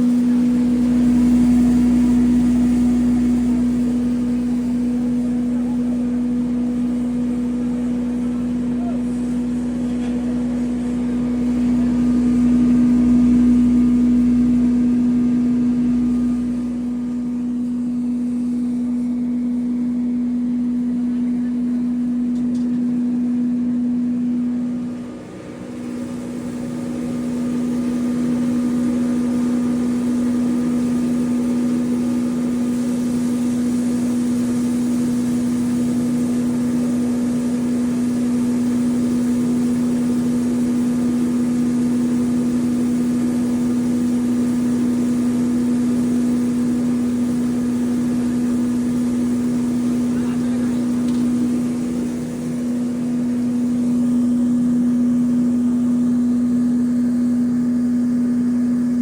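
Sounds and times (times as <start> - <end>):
grinder machine humming: 0.0 - 59.0.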